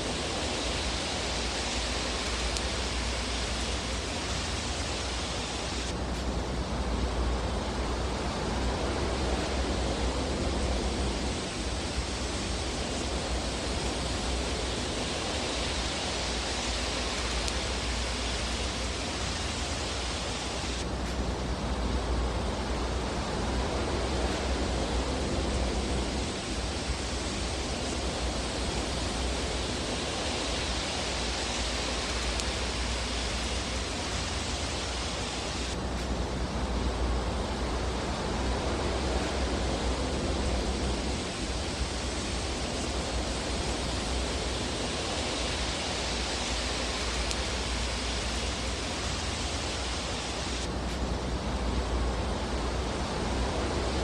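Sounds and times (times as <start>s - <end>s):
fire burning in fireplace: 0.0s - 54.0s.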